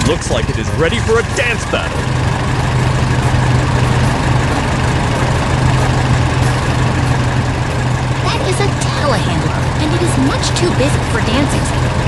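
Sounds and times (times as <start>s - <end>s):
farm machine engine idling: 0.0s - 12.0s.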